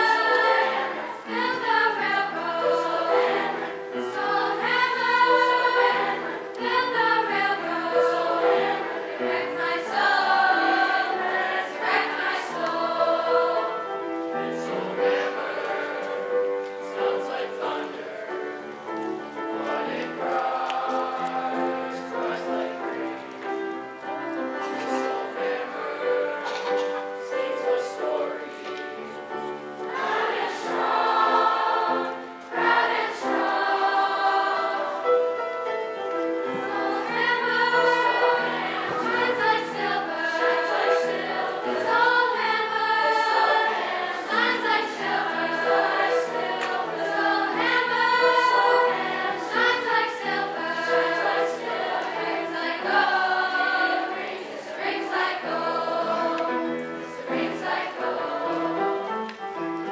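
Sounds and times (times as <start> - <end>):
chorus singing: 0.0 - 59.9
piano accompaniment: 0.0 - 59.9.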